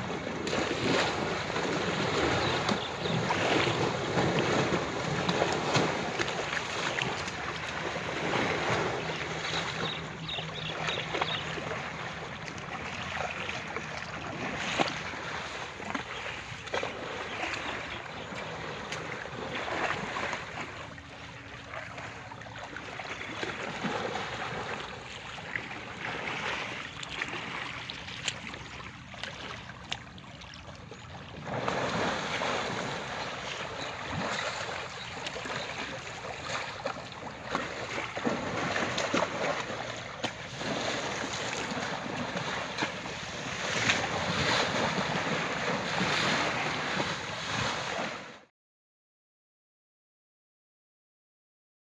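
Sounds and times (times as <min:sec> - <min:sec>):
water splashing and sloshing: 0:00.0 - 0:48.5.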